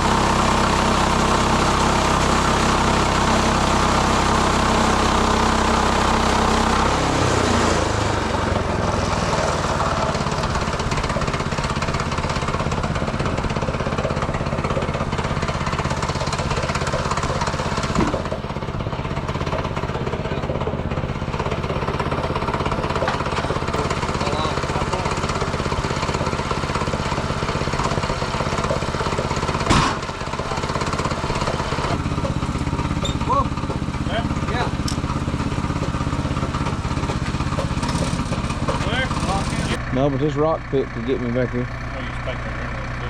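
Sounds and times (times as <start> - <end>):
gas engine running: 0.0 - 43.0.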